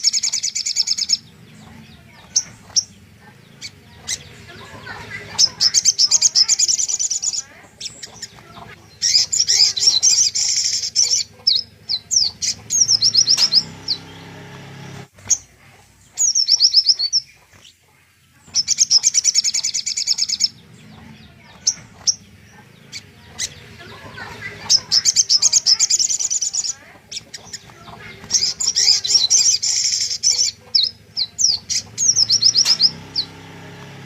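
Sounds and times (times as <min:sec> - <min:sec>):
songbird singing trills and whistles: 0:00.0 - 0:14.3, 0:15.2 - 0:33.9.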